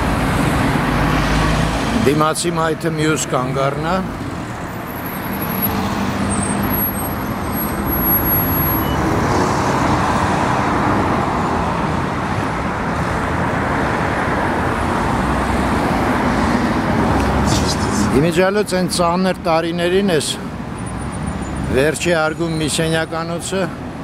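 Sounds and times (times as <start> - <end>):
cars and vans driving past: 0.0 - 24.0.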